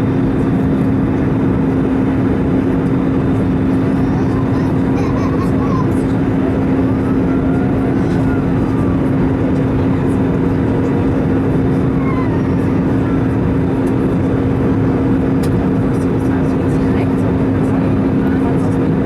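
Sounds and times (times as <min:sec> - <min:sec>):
airplane cabin engine and airflow rush: 0:00.0 - 0:19.0.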